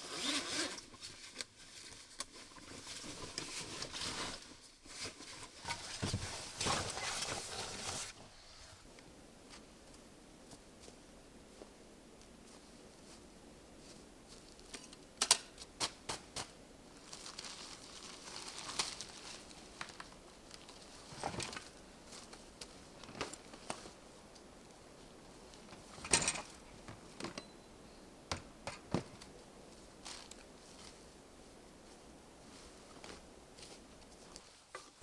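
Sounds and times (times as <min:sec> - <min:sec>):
rustling: 0:00.0 - 0:35.0.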